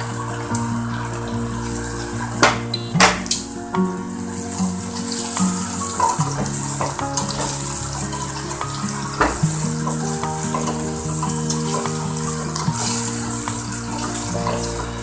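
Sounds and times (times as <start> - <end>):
background music: 0.0 - 15.0
food sizzling in a pot: 0.0 - 15.0.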